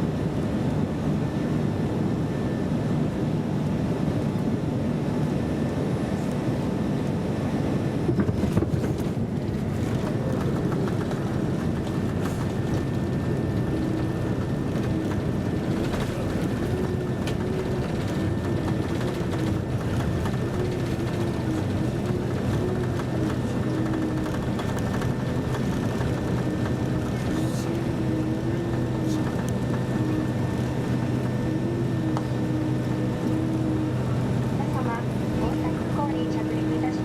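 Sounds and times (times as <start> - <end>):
jet engine and airflow rush: 0.0 - 37.0.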